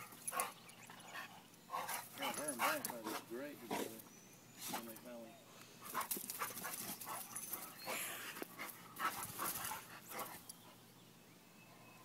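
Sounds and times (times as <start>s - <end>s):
dogs breathing and scuffling: 0.0s - 5.1s, 5.8s - 10.9s.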